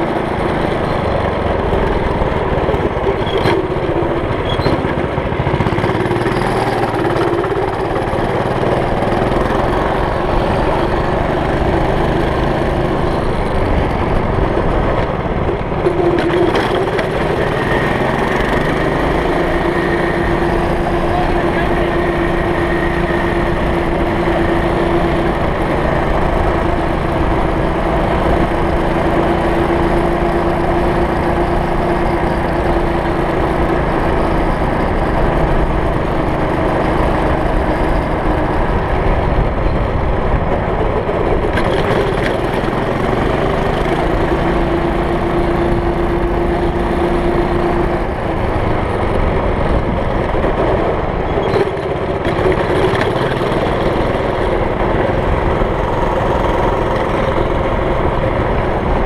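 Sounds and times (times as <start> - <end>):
go kart engine running: 0.0 - 59.0.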